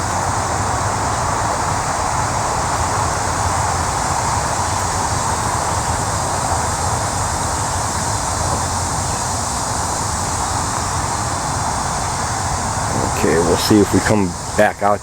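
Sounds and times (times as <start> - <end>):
road traffic roar: 0.0 - 15.0.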